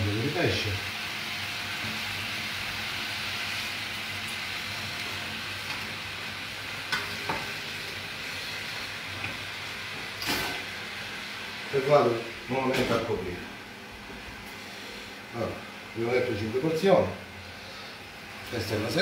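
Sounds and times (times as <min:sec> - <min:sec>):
broth sizzling in a frying pan: 0:00.0 - 0:19.0.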